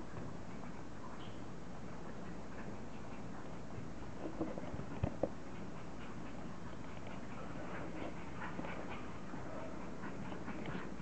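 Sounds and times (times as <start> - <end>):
background hiss: 0.0 - 11.0
puppy noises: 0.4 - 11.0.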